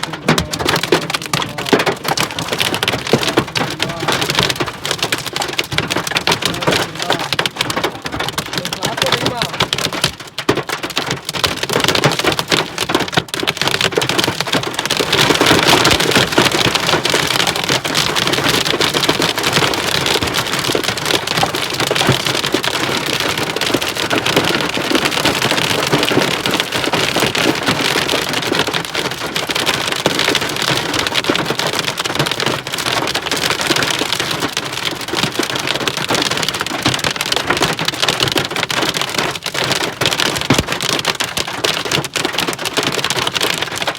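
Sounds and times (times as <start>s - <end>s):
heavy rain and hail: 0.0s - 43.9s.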